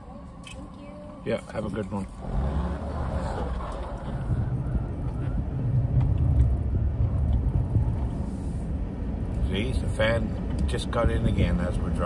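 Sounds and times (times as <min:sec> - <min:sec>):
pickup truck engine: 0:00.0 - 0:12.0
road noise inside cab: 0:00.0 - 0:12.0.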